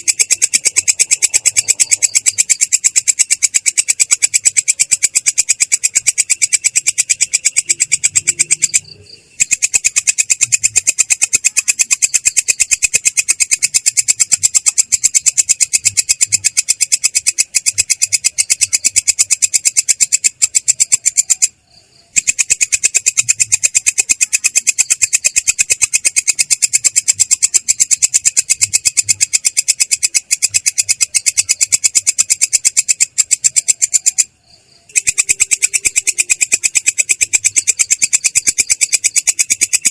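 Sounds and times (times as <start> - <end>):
insect trilling: 0.0 - 39.9.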